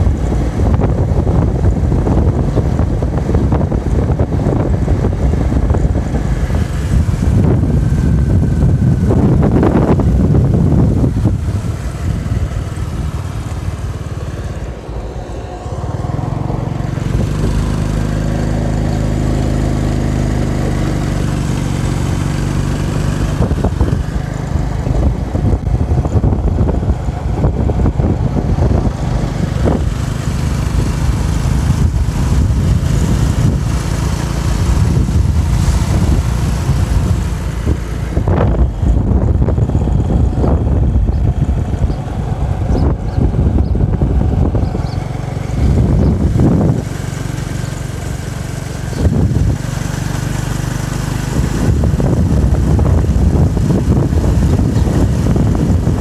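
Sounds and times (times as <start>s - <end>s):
motorbike engine running: 0.0s - 56.0s
wind buffeting microphone: 0.0s - 56.0s.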